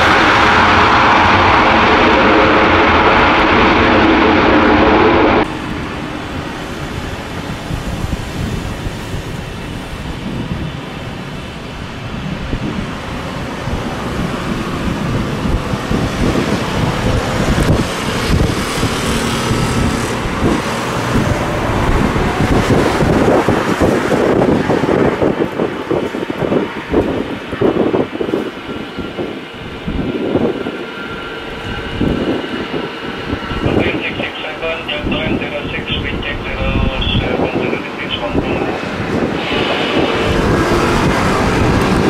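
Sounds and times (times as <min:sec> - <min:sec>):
distant airliner engines: 0:00.0 - 0:42.0
jet engines running loud: 0:00.0 - 0:42.0
wind buffeting microphone: 0:00.0 - 0:42.0.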